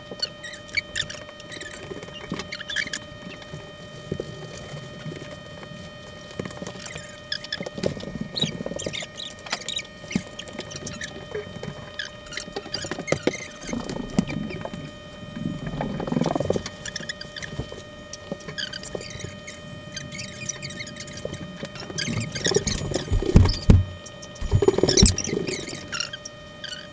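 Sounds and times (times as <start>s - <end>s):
faint steady hum: 0.0s - 26.9s
small ticks and crackles: 0.0s - 26.9s.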